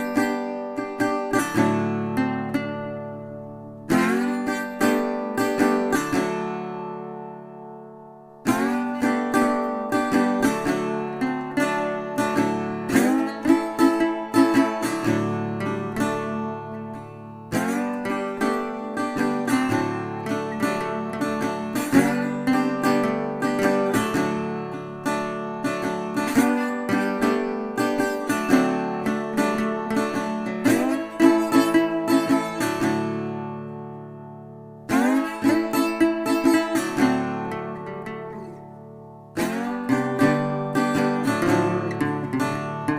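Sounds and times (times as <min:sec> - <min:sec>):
acoustic guitar picking and strumming: 0:00.0 - 0:42.9.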